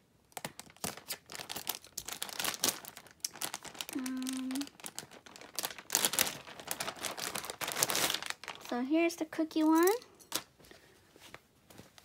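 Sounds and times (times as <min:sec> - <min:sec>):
plastic bag crinkling: 0:00.3 - 0:10.6.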